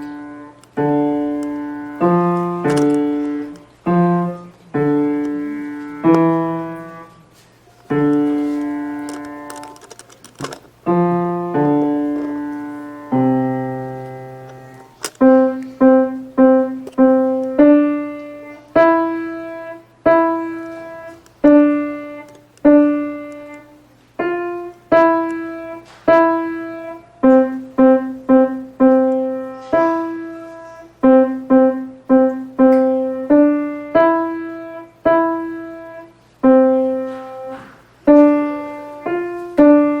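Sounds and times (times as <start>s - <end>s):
child playing piano: 0.0s - 40.0s.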